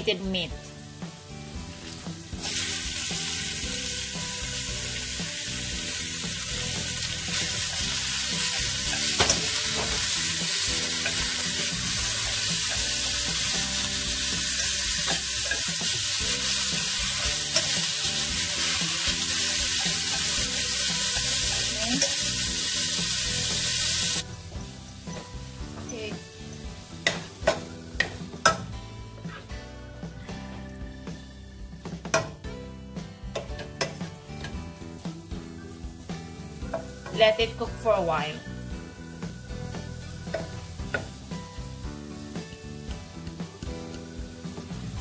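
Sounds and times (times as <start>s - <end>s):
meat sizzling in hot oil: 0.7s - 28.8s, 33.3s - 45.0s.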